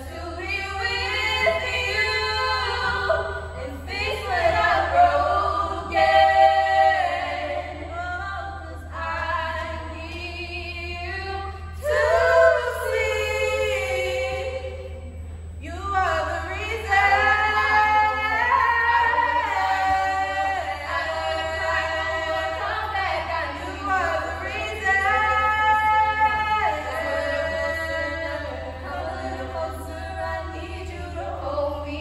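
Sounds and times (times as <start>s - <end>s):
women singing in harmony: 0.0s - 32.0s.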